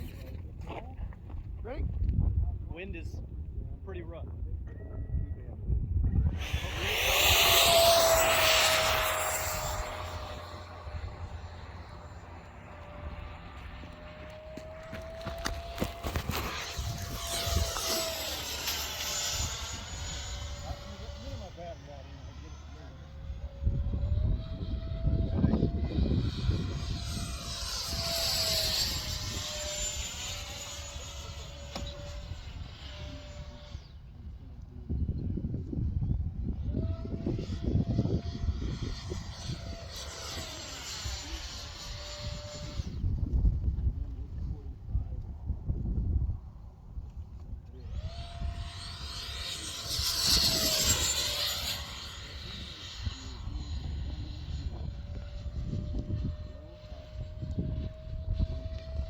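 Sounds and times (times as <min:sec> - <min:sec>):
wind rumble on microphone: 0:00.0 - 0:59.0
electric ducted fan whine: 0:05.3 - 0:59.0.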